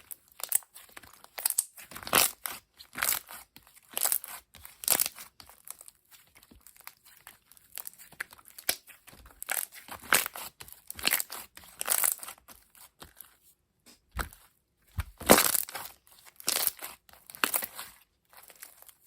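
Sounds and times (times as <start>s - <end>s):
slime squishing and crackling: 0.0s - 13.4s, 14.2s - 19.0s.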